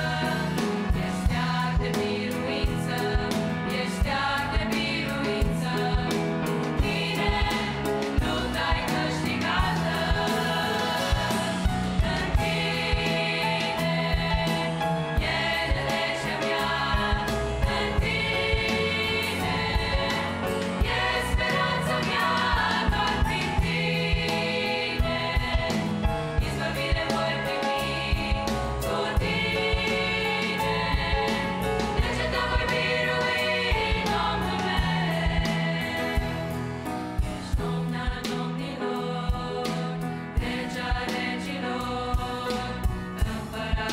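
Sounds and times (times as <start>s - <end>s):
girls' choir singing a hymn: 0.0s - 36.4s, 37.5s - 43.9s
grand piano accompaniment: 0.0s - 43.9s.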